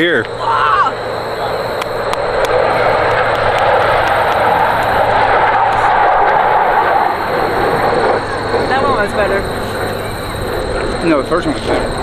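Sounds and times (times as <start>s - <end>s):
jet passing overhead: 0.0s - 12.0s.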